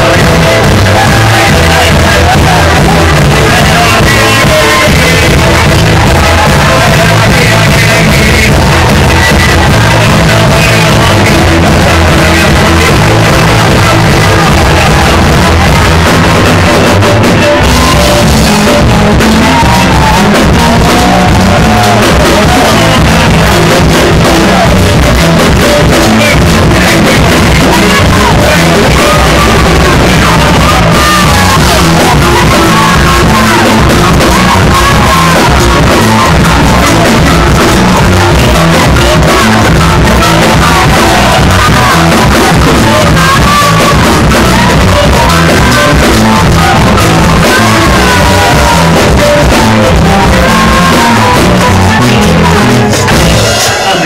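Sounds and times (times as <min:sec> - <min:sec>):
band playing with steady beat: 0:00.0 - 0:54.0
man singing and shouting: 0:00.0 - 0:54.0.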